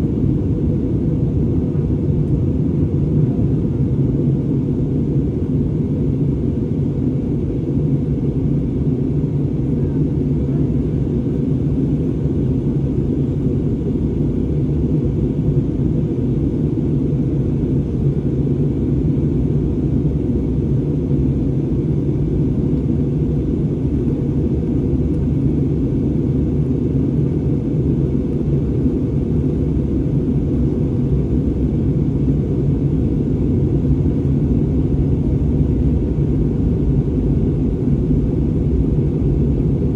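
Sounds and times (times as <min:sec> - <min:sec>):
airliner engine rumble: 0:00.0 - 0:39.9.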